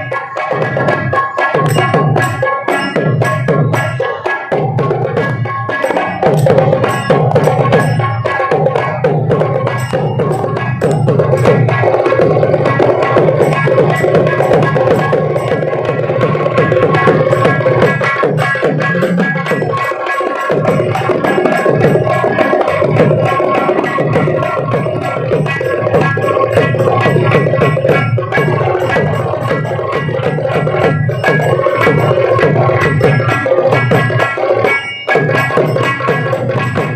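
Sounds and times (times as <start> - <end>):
frame drums fast rhythm: 0.0 - 36.9.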